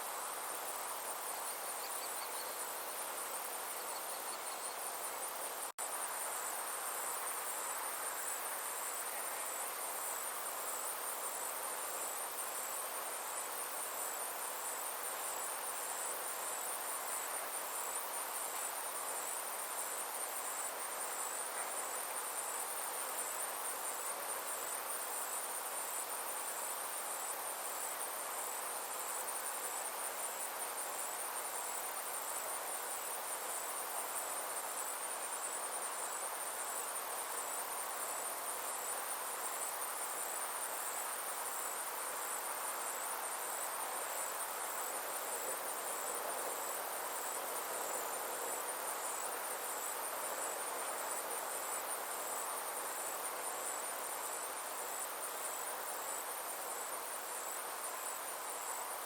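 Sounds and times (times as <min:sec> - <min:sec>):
insects trilling: 0:00.0 - 0:59.0
soft background hiss: 0:00.0 - 0:59.0.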